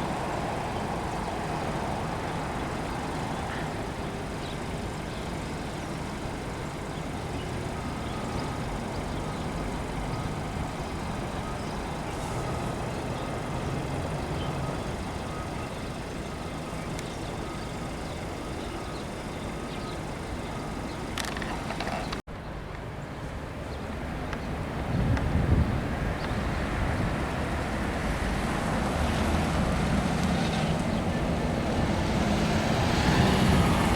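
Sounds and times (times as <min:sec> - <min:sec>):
traffic noise: 0:00.0 - 0:33.9
vehicle engine rumble: 0:00.0 - 0:33.9.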